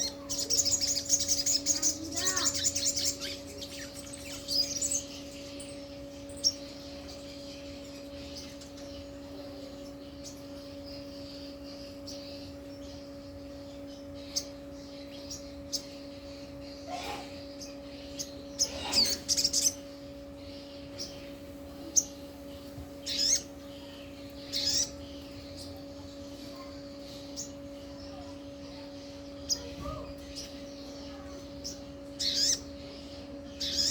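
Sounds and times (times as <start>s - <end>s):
low electrical hum: 0.0s - 33.9s.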